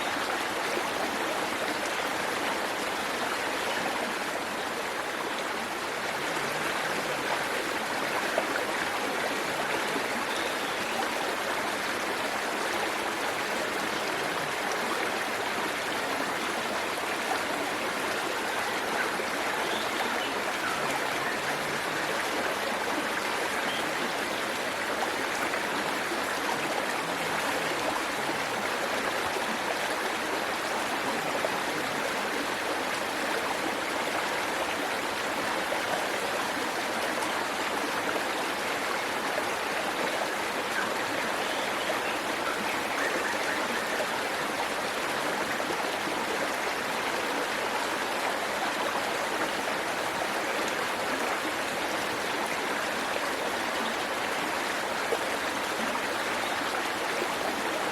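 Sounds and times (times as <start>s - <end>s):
waterfall and stream rushing: 0.0s - 57.9s.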